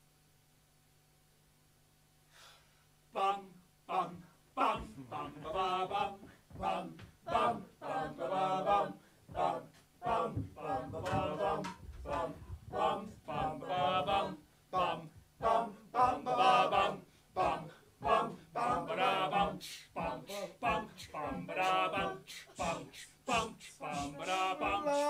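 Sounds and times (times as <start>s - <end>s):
men singing a cappella: 3.2s - 25.0s.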